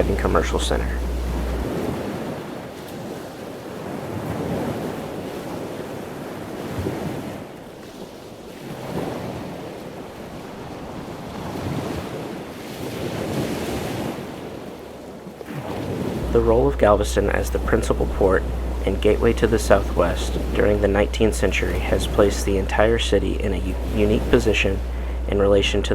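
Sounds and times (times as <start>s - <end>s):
ocean waves washing in: 0.0s - 25.9s.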